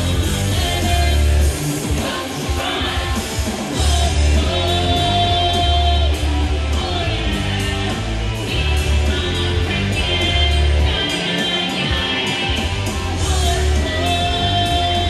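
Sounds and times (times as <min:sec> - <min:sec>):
bass: 0:00.0 - 0:15.0
electric guitar: 0:00.0 - 0:15.0
woman singing: 0:00.0 - 0:15.0.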